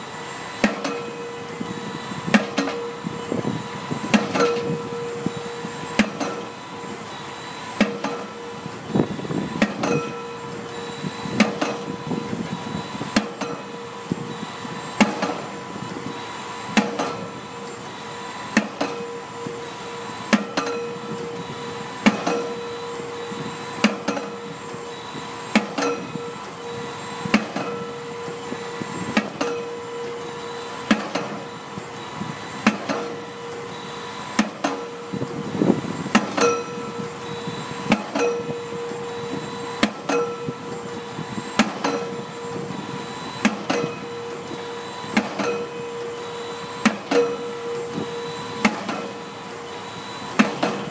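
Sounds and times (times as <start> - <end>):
steady machine hum: 0.0 - 50.9
pile-driving hammer blows: 0.6 - 13.9, 14.8 - 17.7, 18.5 - 31.6, 32.4 - 50.9.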